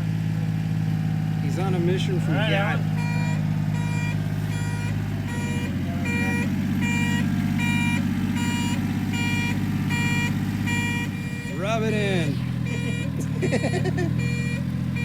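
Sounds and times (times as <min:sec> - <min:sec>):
small engine running: 0:00.0 - 0:15.0
electronic siren beeping: 0:02.3 - 0:15.0.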